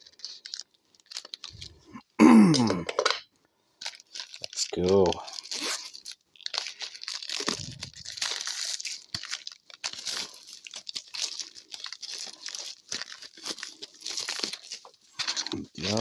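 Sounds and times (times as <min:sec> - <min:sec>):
packaging crinkling and tearing: 0:00.0 - 0:03.2, 0:03.8 - 0:16.0.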